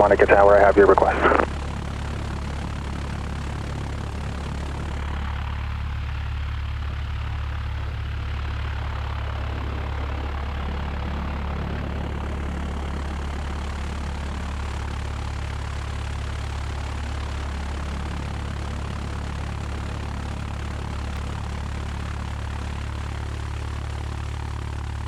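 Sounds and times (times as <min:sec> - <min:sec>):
aircraft piston engine and propeller: 0:00.0 - 0:25.0.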